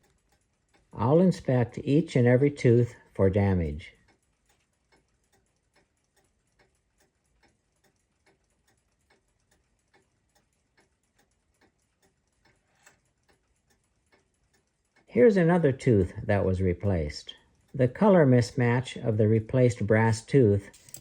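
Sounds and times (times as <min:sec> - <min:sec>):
mechanical clock ticking: 0:00.0 - 0:21.0.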